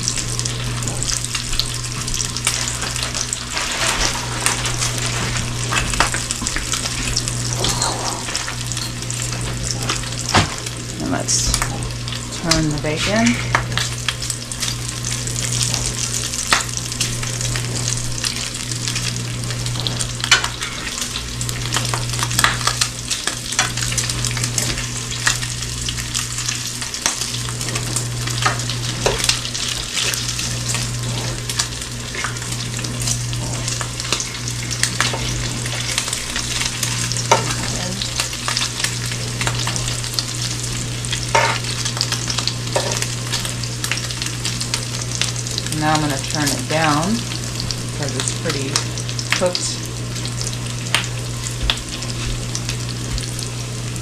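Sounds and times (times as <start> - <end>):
bacon sizzling in a skillet: 0.0 - 54.0.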